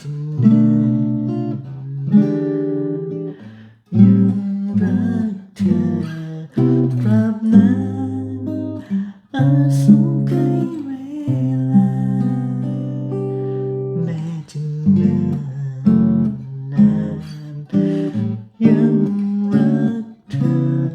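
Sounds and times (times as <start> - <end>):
acoustic guitar chords: 0.0 - 20.9.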